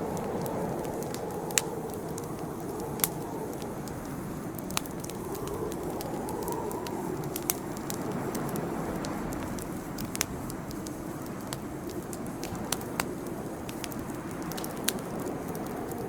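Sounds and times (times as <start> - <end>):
campfire flame rushing: 0.0 - 16.0
wood crackling and popping: 0.0 - 16.0.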